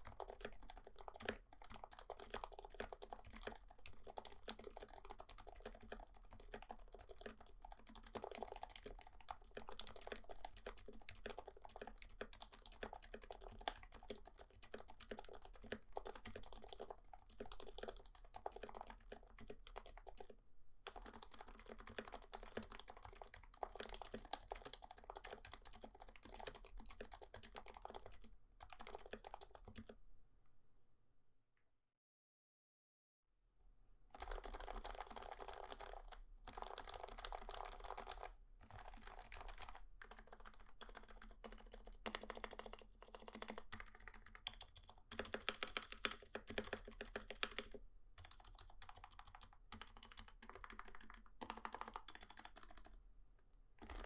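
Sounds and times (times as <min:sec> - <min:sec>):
fast keyboard typing: 0:00.0 - 0:30.0, 0:34.1 - 0:53.0, 0:53.8 - 0:54.0.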